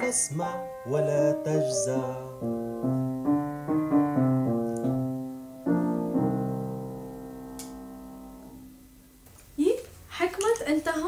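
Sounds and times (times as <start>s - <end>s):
keyboard chords: 0.0s - 9.2s.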